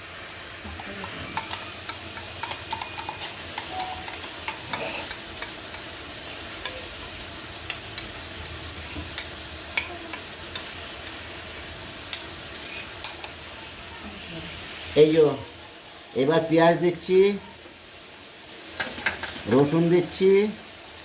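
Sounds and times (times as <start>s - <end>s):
chicken frying in hot oil: 0.0s - 21.0s.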